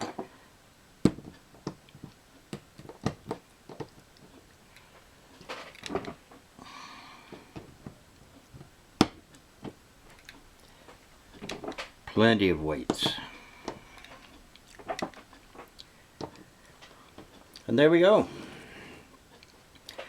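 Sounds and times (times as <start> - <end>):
scraping and handling noise: 1.1 - 17.6.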